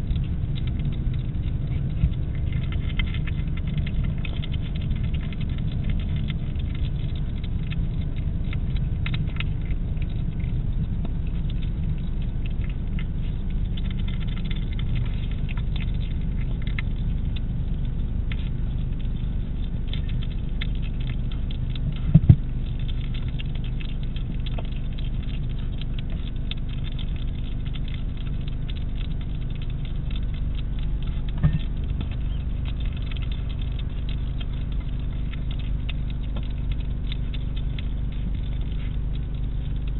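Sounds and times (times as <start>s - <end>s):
hedgehog chewing: 0.0s - 39.9s
steady low hum: 0.0s - 39.9s.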